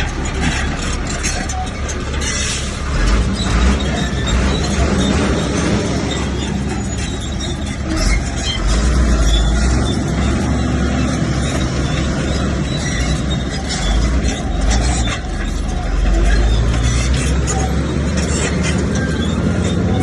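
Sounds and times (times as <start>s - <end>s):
bulldozer tracks clattering: 0.0s - 20.0s
diesel engine under load: 0.0s - 20.0s.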